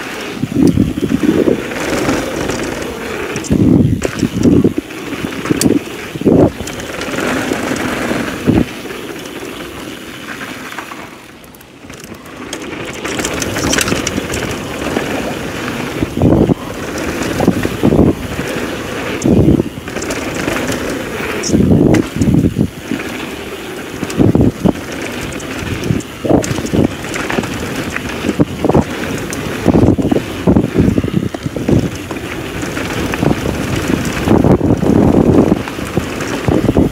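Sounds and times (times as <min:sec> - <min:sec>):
wind buffeting microphone: 0:00.0 - 0:10.3, 0:11.7 - 0:36.9
bike tyres on gravel trail: 0:00.0 - 0:36.9
bike thumps and rattles: 0:00.5 - 0:36.9.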